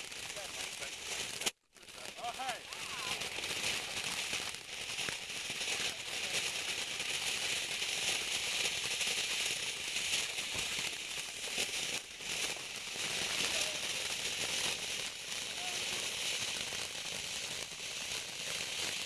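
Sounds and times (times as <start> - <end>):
ground firework hissing crackle: 0.0 - 19.0.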